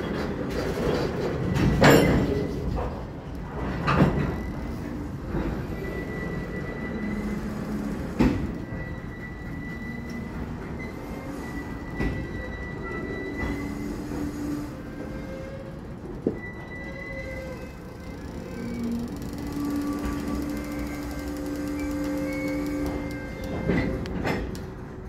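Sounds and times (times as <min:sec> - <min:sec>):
train cars clanking: 0:00.0 - 0:25.0
train wheel rumble: 0:00.0 - 0:25.0
high-pitched wheel squeal: 0:04.2 - 0:24.4.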